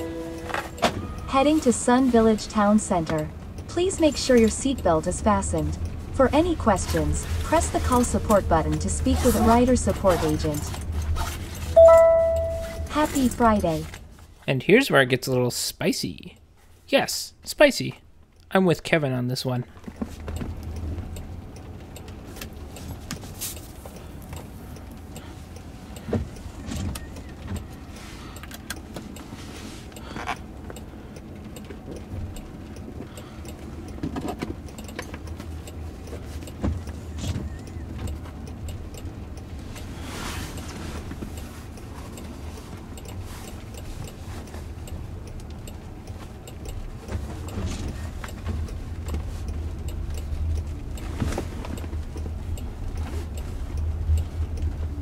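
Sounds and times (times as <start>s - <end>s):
road and tyre rumble: 0.0s - 14.6s, 19.6s - 55.0s.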